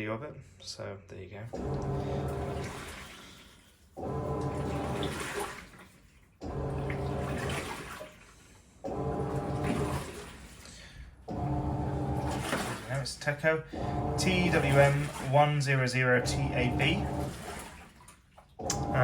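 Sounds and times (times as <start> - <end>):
washing machine agitator motor humming: 1.5 - 19.0
water sloshing in tub: 1.5 - 19.0.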